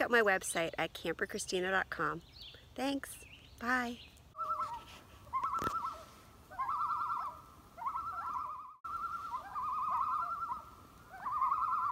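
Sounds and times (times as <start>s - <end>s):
bird calling in trilled phrases: 2.2s - 11.9s.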